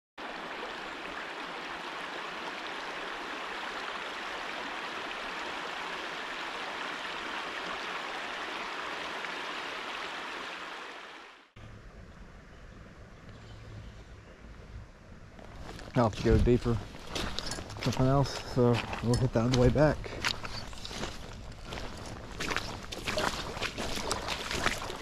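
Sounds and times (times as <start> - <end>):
creek water rushing: 0.2 - 11.6, 16.2 - 25.0.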